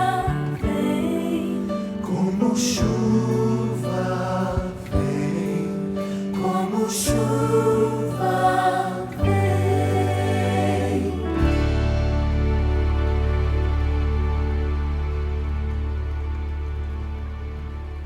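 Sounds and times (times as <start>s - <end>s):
choir singing: 0.0s - 17.2s.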